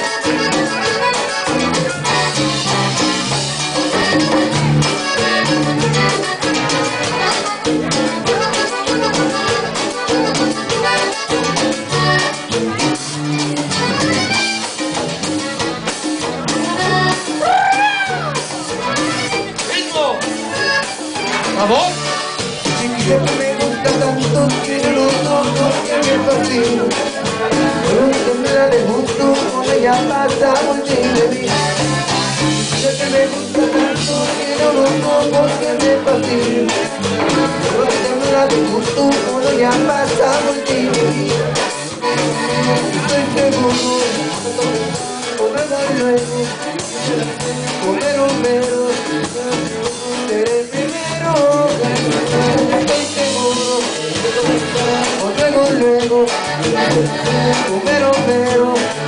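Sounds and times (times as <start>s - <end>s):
live band playing latin music: 0.0s - 59.0s.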